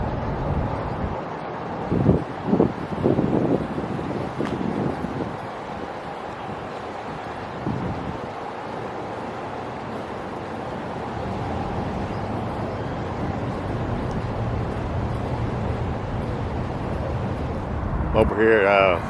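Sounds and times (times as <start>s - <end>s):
traffic-like hum: 0.0s - 19.0s.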